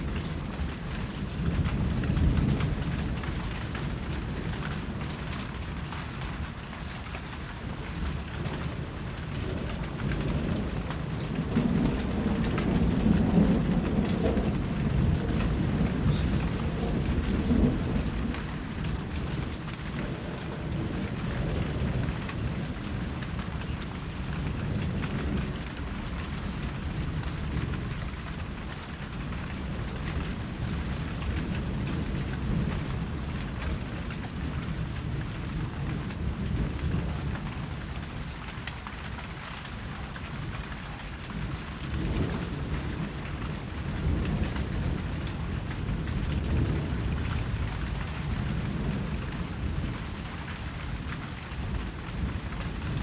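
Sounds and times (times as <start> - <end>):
low rumble of thunder: 0.0 - 53.0
steady rain falling: 0.0 - 53.0.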